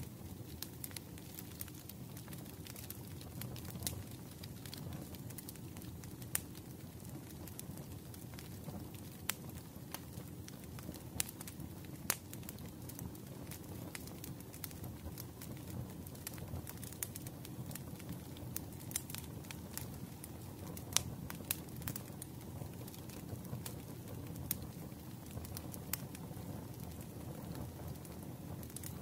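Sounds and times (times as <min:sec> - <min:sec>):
wood fire popping and snapping: 0:00.0 - 0:29.0.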